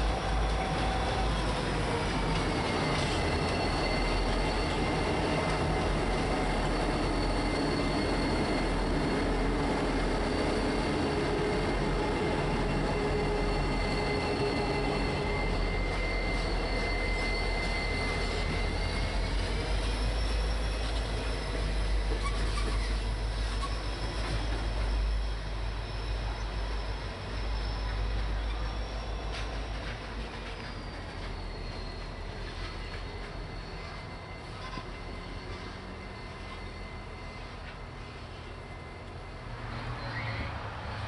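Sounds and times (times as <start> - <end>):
diesel locomotives rumbling: 0.0 - 41.0
high-pitched squeal: 0.0 - 41.0.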